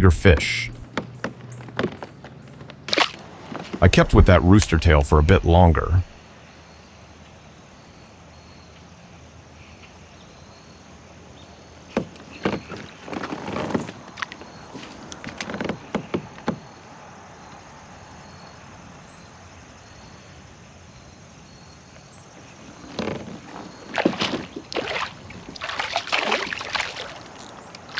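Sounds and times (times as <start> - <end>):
outdoor background hiss: 0.0 - 27.9.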